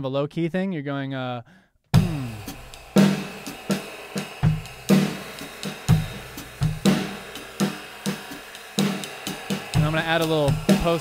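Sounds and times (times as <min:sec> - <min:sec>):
drum kit groove: 0:02.0 - 0:11.0.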